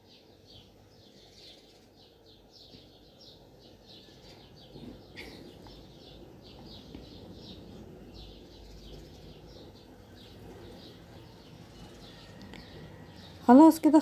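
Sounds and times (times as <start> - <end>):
small bird chirping: 0.0 - 13.6.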